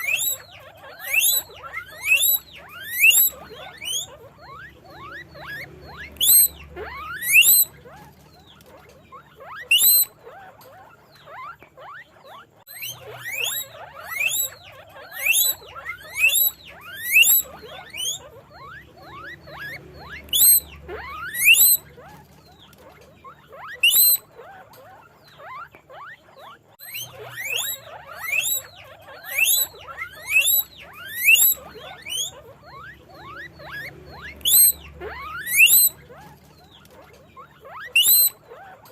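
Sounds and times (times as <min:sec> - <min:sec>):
guinea pigs squeaking: 0:00.0 - 0:38.9.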